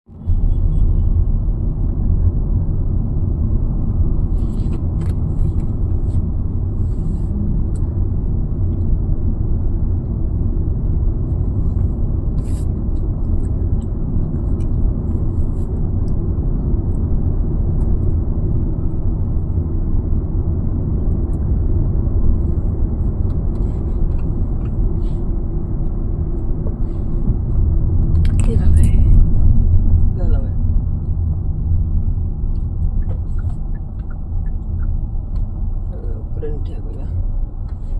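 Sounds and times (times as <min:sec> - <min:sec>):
car road and engine rumble: 0:00.0 - 0:37.9.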